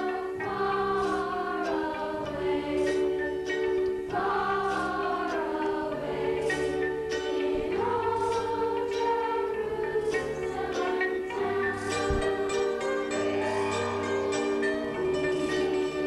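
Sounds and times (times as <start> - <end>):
low musical accompaniment: 0.0 - 16.0
youth choir singing: 0.0 - 16.0.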